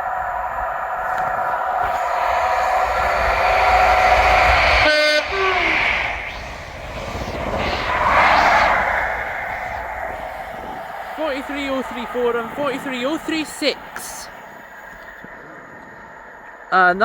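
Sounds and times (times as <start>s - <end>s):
diesel train engine passing: 0.0s - 15.1s.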